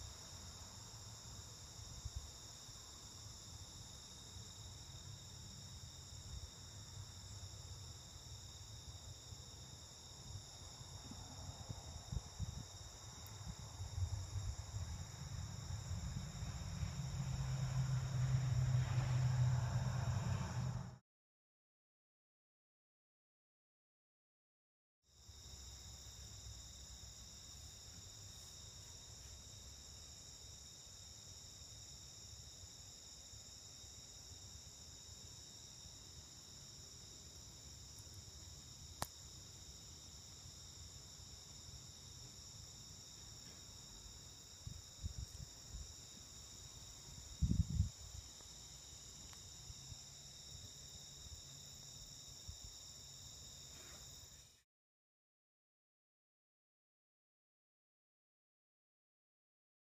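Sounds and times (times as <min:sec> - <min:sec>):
insect chorus drone: 0:00.0 - 0:21.0, 0:25.1 - 0:54.6.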